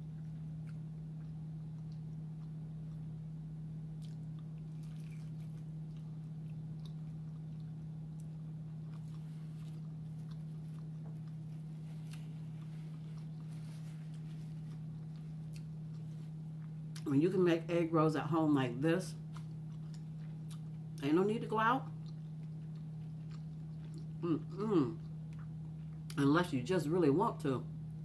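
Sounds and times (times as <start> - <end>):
close chewing with crunches: 0.0 - 3.2, 3.9 - 17.1, 19.1 - 26.3
steady low hum: 0.0 - 28.0.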